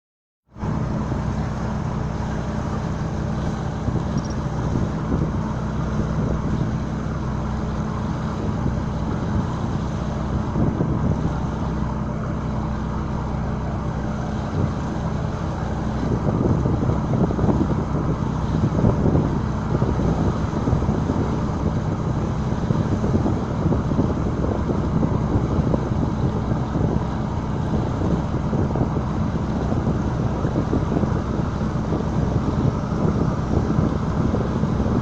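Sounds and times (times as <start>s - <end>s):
engine drone: 0.5s - 35.0s.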